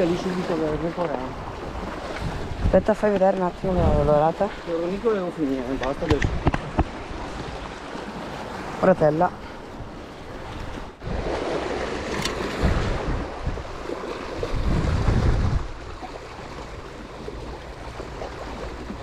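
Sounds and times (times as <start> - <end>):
wind buffeting microphone: 0.0 - 8.8, 9.4 - 19.0
sea surf washing in: 0.0 - 19.0.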